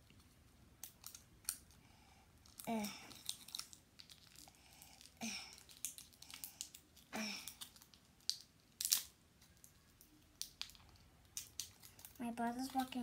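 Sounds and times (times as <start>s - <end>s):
plastic packaging crinkling and tearing: 2.4s - 13.0s.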